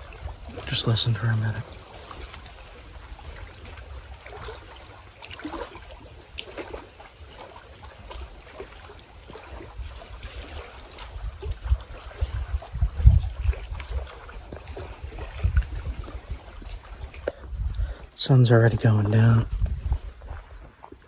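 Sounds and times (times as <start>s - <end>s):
waves lapping against shore: 0.0s - 21.0s
wind buffeting microphone: 0.0s - 21.0s.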